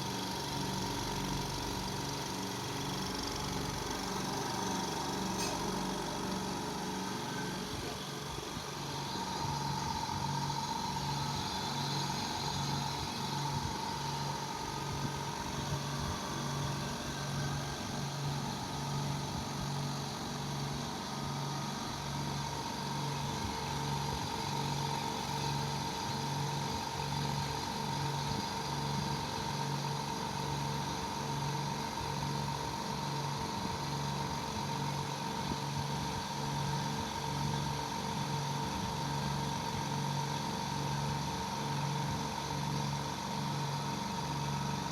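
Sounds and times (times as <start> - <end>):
air compressor running: 0.0 - 44.9.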